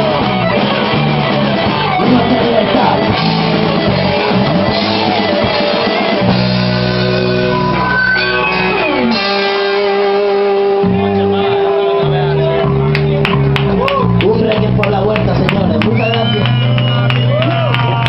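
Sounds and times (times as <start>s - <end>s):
rock band playing live: 0.0s - 18.0s.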